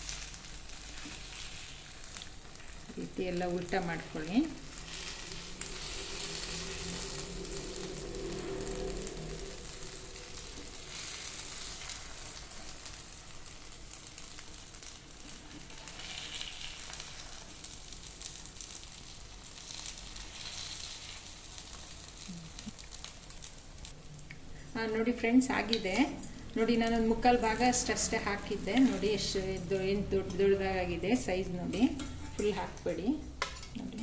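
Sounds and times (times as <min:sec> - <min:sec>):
batter sizzling in hot oil: 0:00.0 - 0:34.0.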